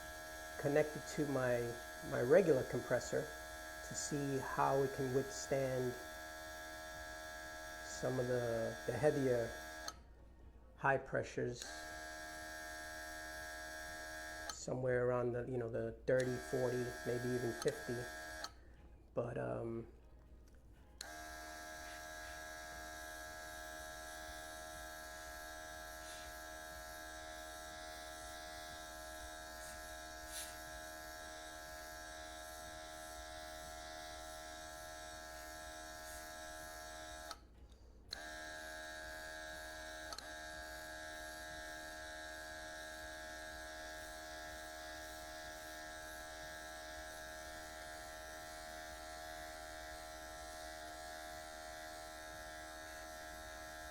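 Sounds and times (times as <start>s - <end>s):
airbrush compressor buzzing: 0.0s - 10.0s, 11.6s - 14.6s, 16.2s - 18.7s, 21.0s - 37.5s, 38.1s - 53.9s.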